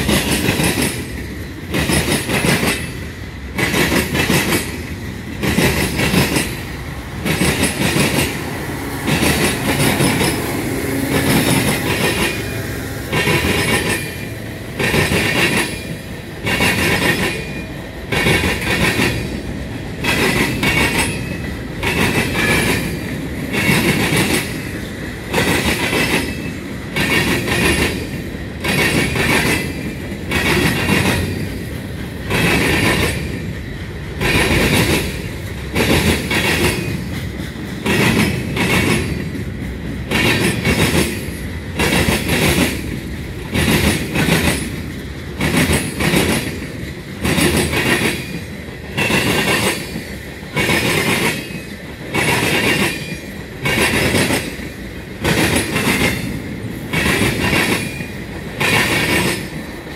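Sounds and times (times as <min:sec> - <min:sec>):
freight train rumble: 0:00.0 - 0:59.9
train wheels clacking on rail joints: 0:00.0 - 0:59.9.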